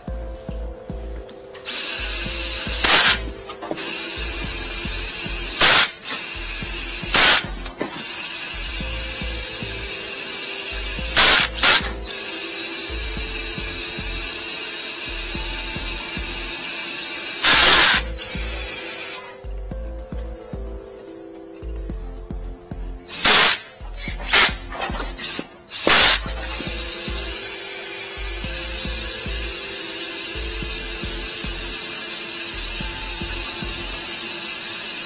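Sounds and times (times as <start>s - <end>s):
cordless drill whirring: 1.6s - 19.6s, 23.1s - 35.0s.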